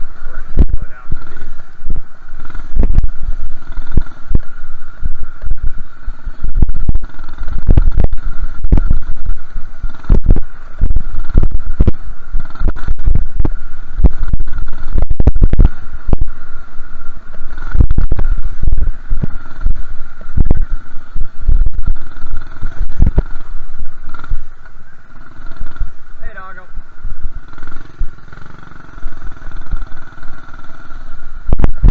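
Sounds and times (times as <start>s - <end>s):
small engine running: 0.0s - 31.9s
wind buffeting microphone: 0.0s - 31.9s.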